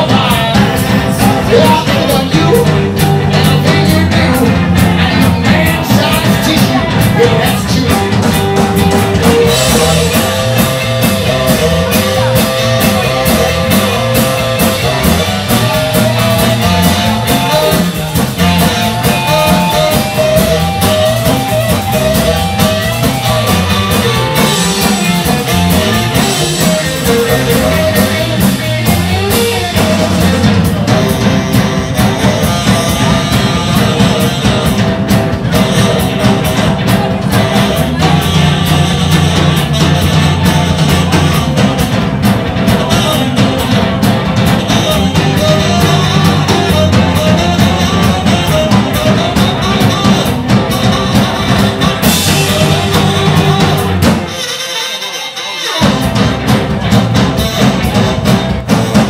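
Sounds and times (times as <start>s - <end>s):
bass guitar: 0.0s - 59.0s
drums: 0.0s - 59.0s
electric guitar: 0.0s - 59.0s
tenor saxophone: 5.7s - 58.7s.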